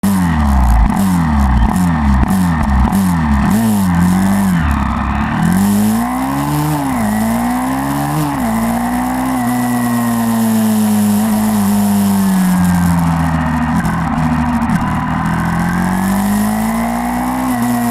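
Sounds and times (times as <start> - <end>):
motorbike engine revving: 0.0 - 17.9.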